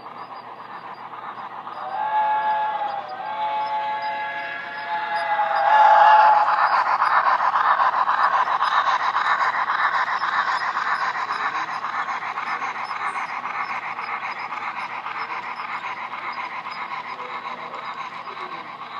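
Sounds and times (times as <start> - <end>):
model train running on track: 0.0 - 18.9.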